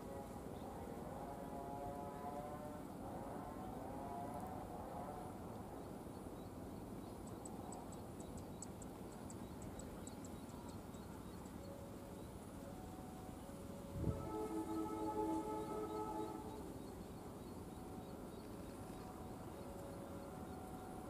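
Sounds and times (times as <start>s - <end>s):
outdoor background hum: 0.0s - 21.0s.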